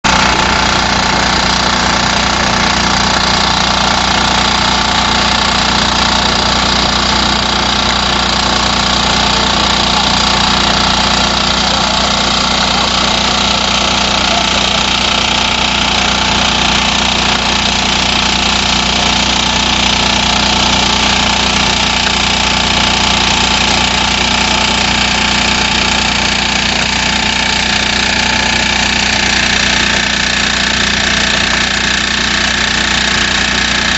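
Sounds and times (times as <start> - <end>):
machine engine running steadily: 0.0 - 33.9.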